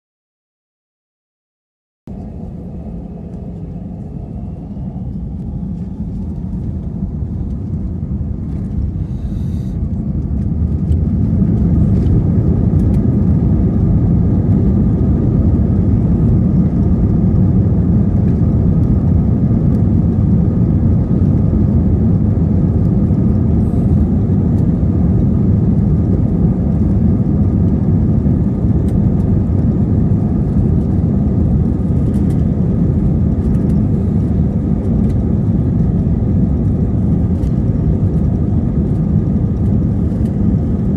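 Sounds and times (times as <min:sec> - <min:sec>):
engine fan whine: 0:02.1 - 0:40.9
jet engine rumble in cabin: 0:02.1 - 0:40.9.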